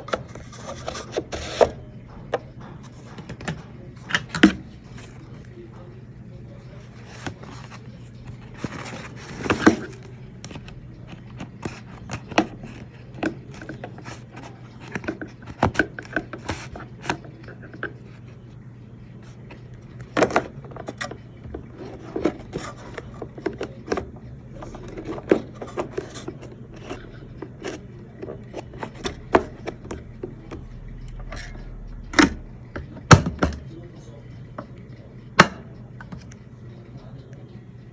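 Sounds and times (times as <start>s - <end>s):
hard objects clicking and knocking: 0.0s - 5.9s, 6.9s - 18.4s, 19.3s - 33.8s, 34.5s - 36.4s
low steady hum: 0.0s - 37.9s.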